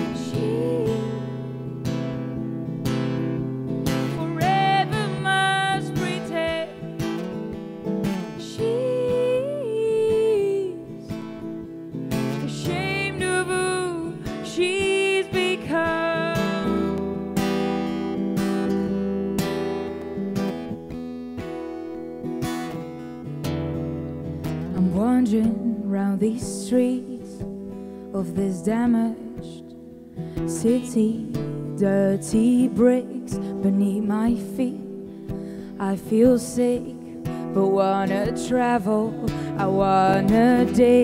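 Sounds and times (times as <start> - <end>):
acoustic guitar strummed and picked: 0.0 - 41.0
wordless sung melody: 0.0 - 41.0.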